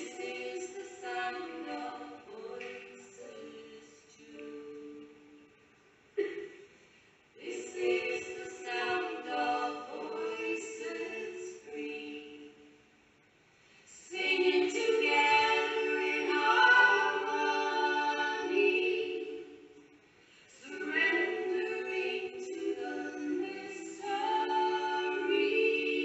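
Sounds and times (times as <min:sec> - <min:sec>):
choir singing slow song: 0:00.0 - 0:13.0, 0:13.7 - 0:26.0.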